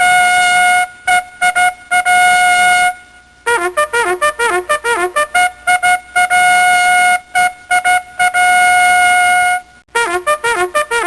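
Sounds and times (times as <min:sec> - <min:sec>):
bugle call: 0:00.0 - 0:11.0.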